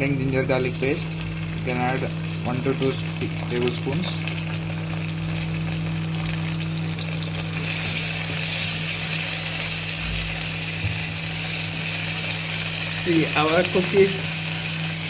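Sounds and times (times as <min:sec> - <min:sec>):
paste sizzling in a pan: 0:00.3 - 0:15.0.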